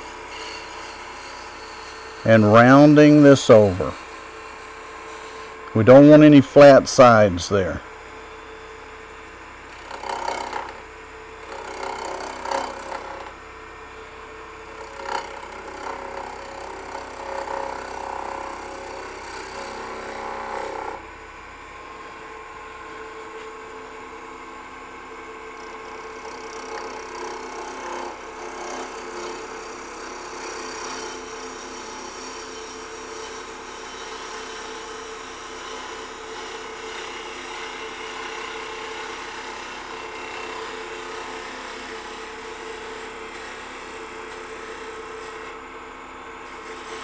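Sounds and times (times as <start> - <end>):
tool cutting wood on lathe: 0.0 - 7.8, 9.7 - 10.8, 11.4 - 13.4, 14.6 - 21.0, 25.5 - 45.7, 46.4 - 47.0
lathe running hum: 0.0 - 47.0.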